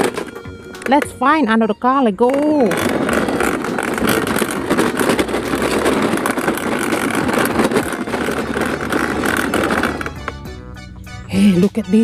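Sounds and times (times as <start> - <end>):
plastic toy wheels rolling: 0.0 - 10.6
toy trucks rattling: 0.0 - 10.6.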